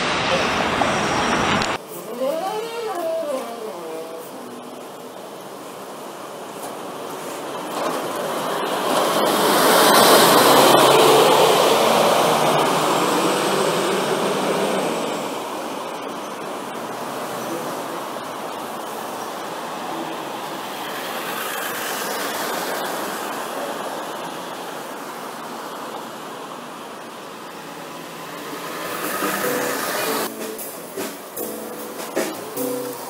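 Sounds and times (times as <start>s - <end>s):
bus passing by: 0.0s - 2.4s, 3.9s - 33.0s
street traffic noise: 0.0s - 33.0s.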